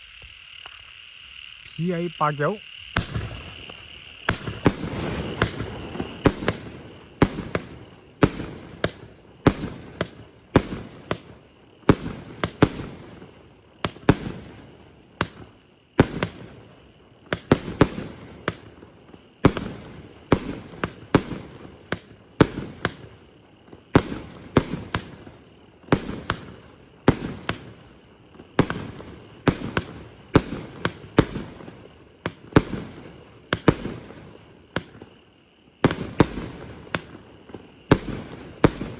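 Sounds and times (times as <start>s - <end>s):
fireworks bangs: 1.7s - 38.9s.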